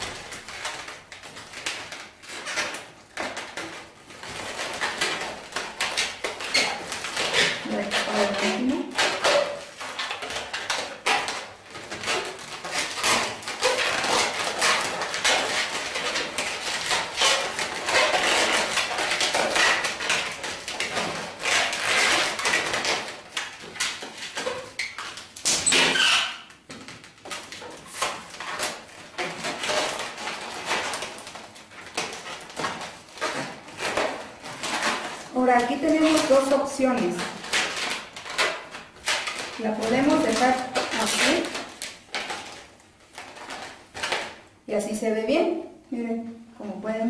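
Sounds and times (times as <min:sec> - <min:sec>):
balloons squeaking and rubbing: 0:00.0 - 0:44.5.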